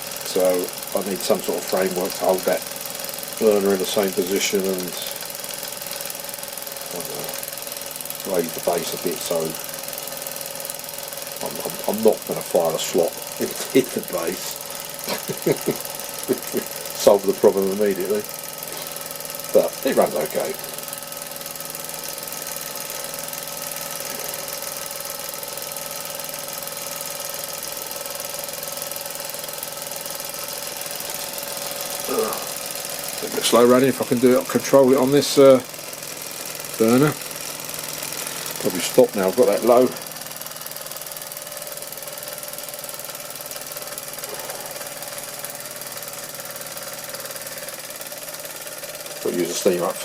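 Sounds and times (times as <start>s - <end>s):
gas burner hiss: 0.0s - 50.0s
toy steam engine chuffing: 0.0s - 50.0s.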